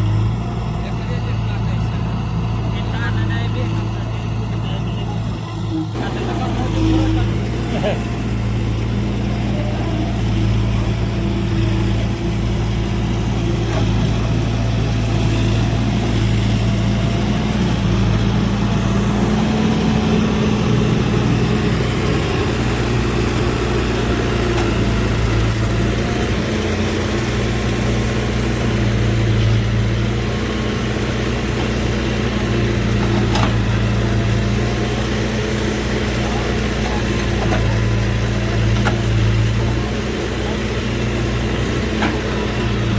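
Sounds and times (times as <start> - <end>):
diesel machinery droning: 0.0 - 42.9.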